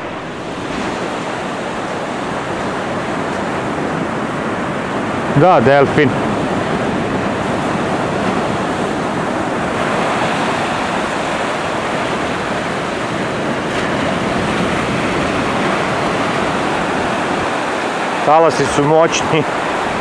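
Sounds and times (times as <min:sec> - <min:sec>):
surf waves breaking: 0:00.0 - 0:20.0.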